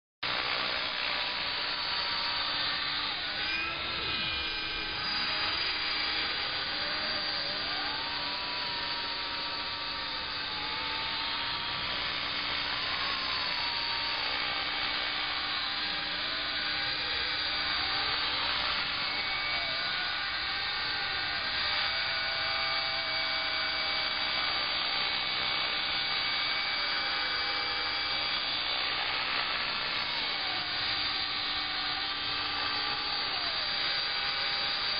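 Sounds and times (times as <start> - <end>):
model helicopter motor and rotor whine: 0.2 - 34.9.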